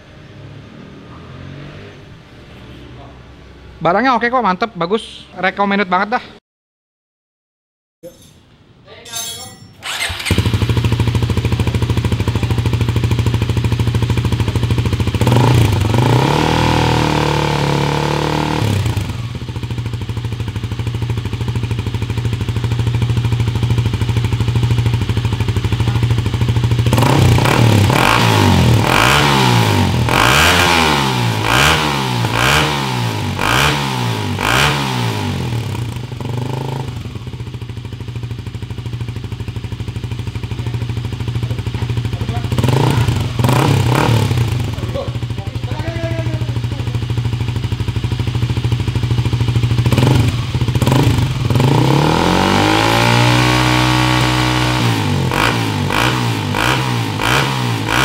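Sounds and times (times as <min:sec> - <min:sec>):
motorcycle engine idling and revving: 0:00.0 - 0:04.6, 0:09.8 - 0:58.0.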